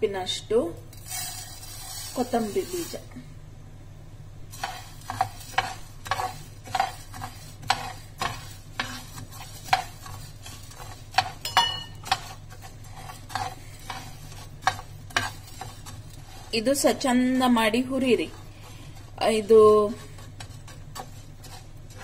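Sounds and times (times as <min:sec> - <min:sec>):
low steady hum: 0:00.0 - 0:22.0
metal spoon scraping seeds in pan: 0:00.9 - 0:03.1, 0:04.5 - 0:22.0.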